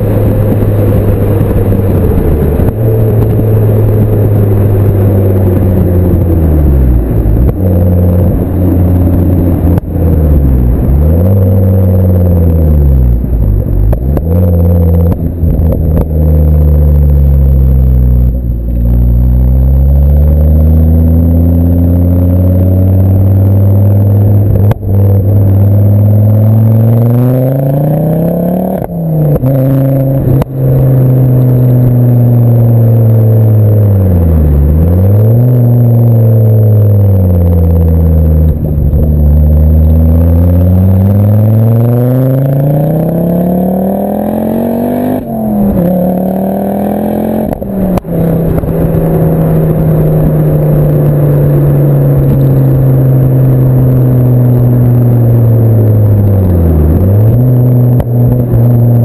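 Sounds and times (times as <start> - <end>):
car exhaust revving: 0.0 - 59.0.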